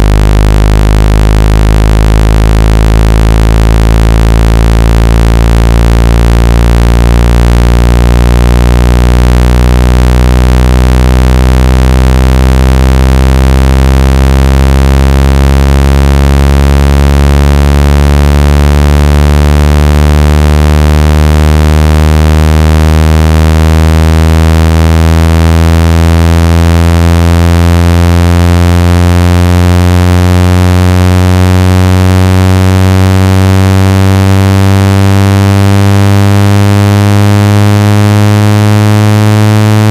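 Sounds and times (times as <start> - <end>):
synthesized buzzing tone rising: 0.0 - 39.9.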